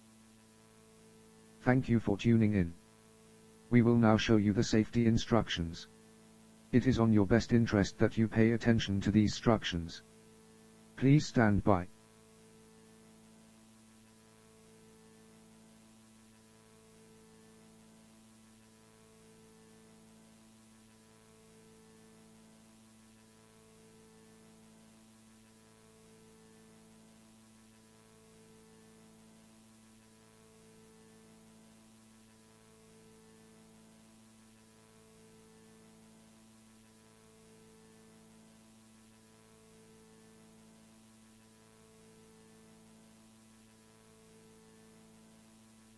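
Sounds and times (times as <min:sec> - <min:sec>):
faint electronic hum: 0:00.0 - 0:45.9.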